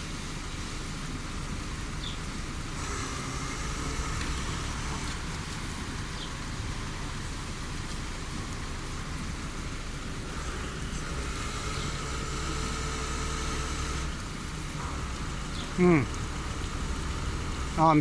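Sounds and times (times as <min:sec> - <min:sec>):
heavy rain falling: 0:00.0 - 0:18.0
vehicle engine running: 0:00.0 - 0:18.0
faint steady whine: 0:01.2 - 0:18.0.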